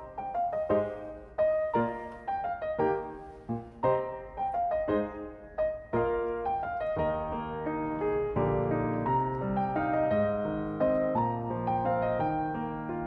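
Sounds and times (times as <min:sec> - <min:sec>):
gentle solo piano melody: 0:00.0 - 0:13.0.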